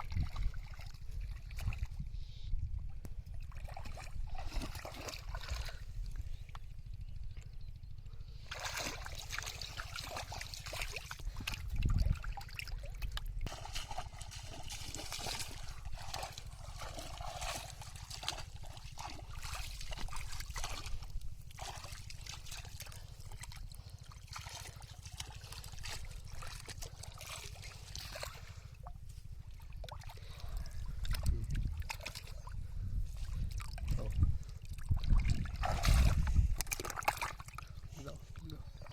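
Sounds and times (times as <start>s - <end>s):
shallow water splashing: 0.0s - 2.1s, 3.0s - 7.0s, 8.3s - 38.9s
low rumbles: 0.0s - 22.2s, 28.6s - 38.9s.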